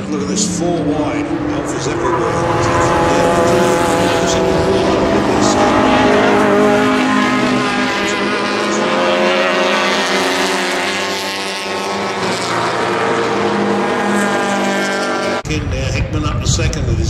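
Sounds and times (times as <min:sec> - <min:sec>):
racing cars passing: 0:00.0 - 0:15.5.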